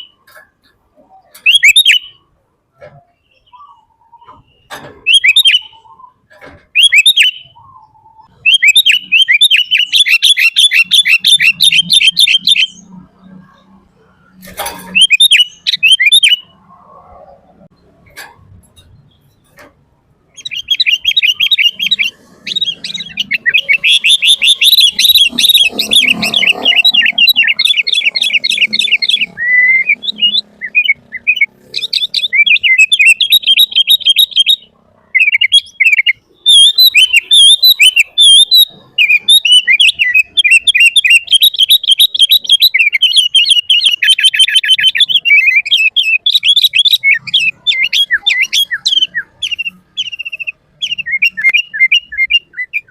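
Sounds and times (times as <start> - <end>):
bird singing chattering song: 0.0 - 52.9.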